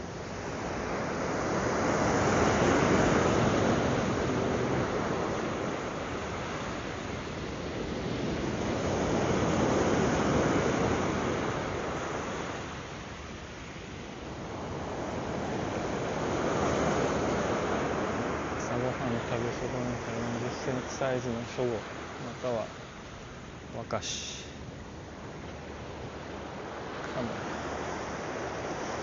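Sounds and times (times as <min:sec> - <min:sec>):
surf breaking on a beach: 0:00.0 - 0:29.0.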